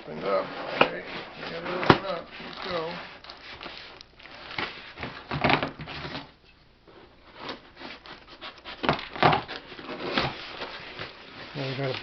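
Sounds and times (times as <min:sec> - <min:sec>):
cardboard and packing rustling: 0:00.0 - 0:12.0.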